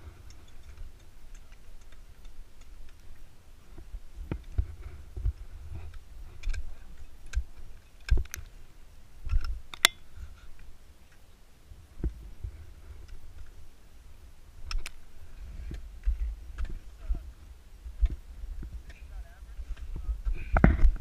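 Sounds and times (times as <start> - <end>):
dull low bumps: 0.0 - 10.7, 11.7 - 21.0.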